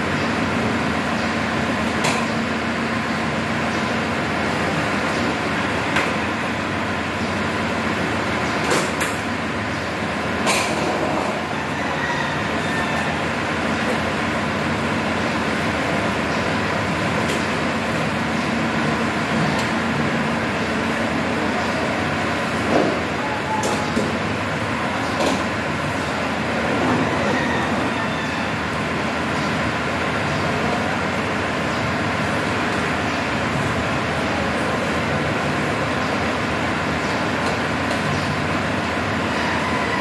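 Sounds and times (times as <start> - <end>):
steady background hum: 0.0 - 40.0.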